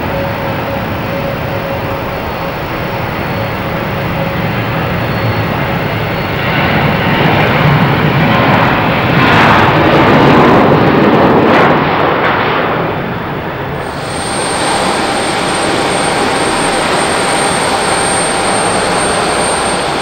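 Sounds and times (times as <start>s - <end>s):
jet airliner engines rushing: 0.0s - 20.0s.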